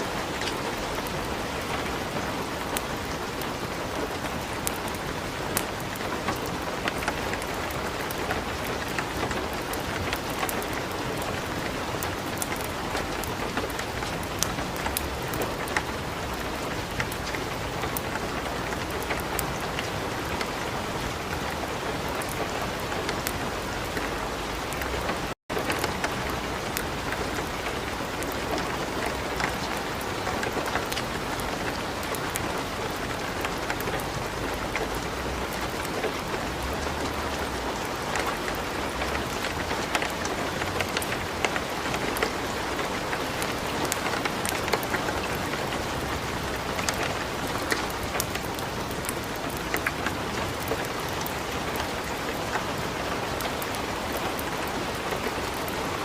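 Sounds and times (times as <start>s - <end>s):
light rain: 0.0s - 56.0s
wood fire crackling: 0.2s - 56.0s.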